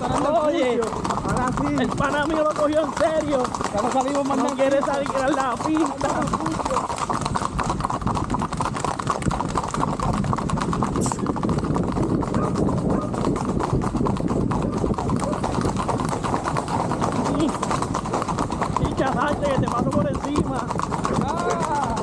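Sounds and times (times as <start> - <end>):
horse hooves on asphalt: 0.0 - 22.0.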